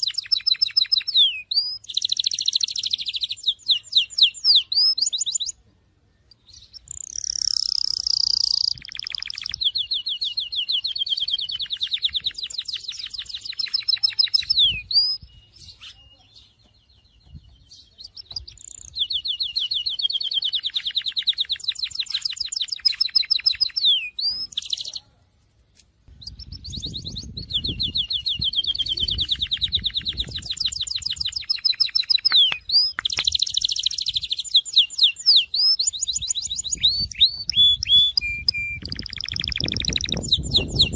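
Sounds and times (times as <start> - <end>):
canary singing high trills: 0.0 - 5.6, 6.3 - 16.6, 17.7 - 25.0, 26.1 - 40.9.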